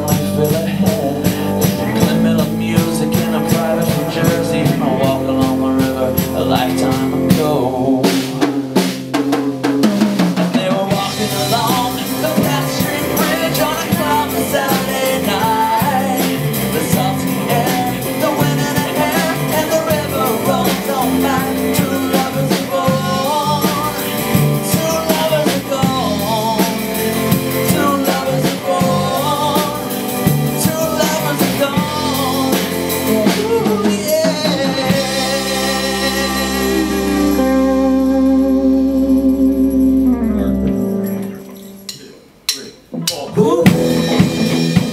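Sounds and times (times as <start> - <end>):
person singing: 0.0 - 9.1, 10.3 - 44.9
drum kit: 0.0 - 44.9
electric and acoustic guitars: 0.0 - 44.9
electric bass: 0.0 - 44.9.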